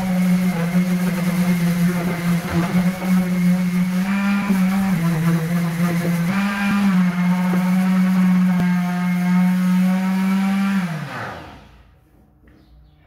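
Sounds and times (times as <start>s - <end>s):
sander winding down: 0.0s - 11.9s
electric sander on wall: 0.0s - 12.0s.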